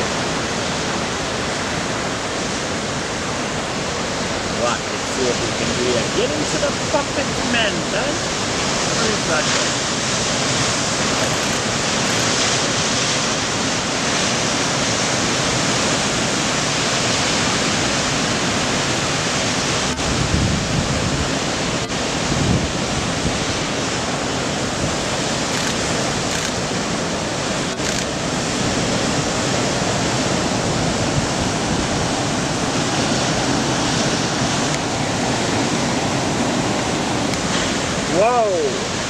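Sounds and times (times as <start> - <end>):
ocean surf breaking: 0.0 - 39.0.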